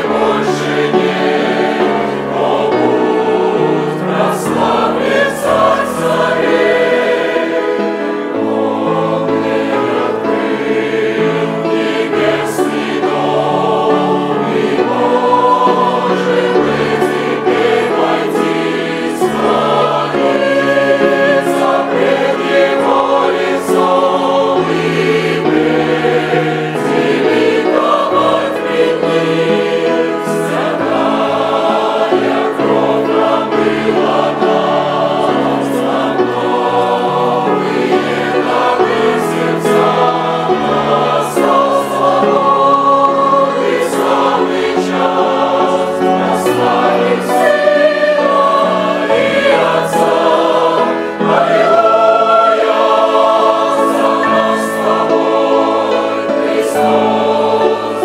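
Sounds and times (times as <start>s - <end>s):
mixed choir singing a hymn: 0.0s - 58.0s.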